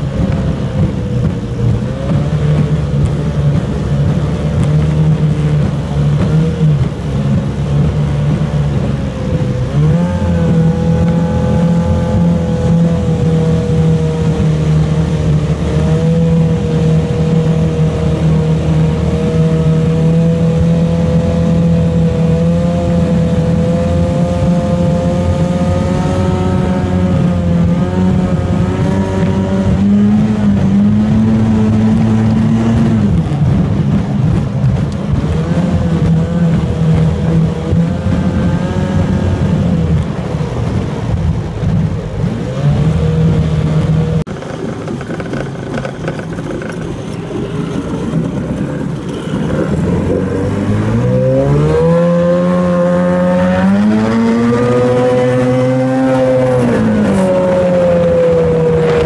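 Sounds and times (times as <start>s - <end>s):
outboard engine at high revs: 0.0s - 59.0s.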